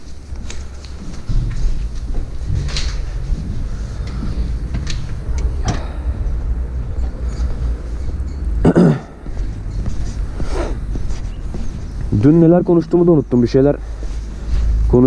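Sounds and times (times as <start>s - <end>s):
handling and walking rumble: 0.0s - 15.0s.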